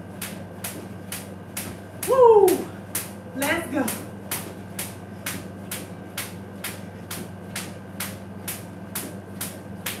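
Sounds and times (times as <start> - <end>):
low steady hum: 0.0 - 10.0
jump rope slapping tile floor: 0.2 - 3.1, 3.8 - 10.0.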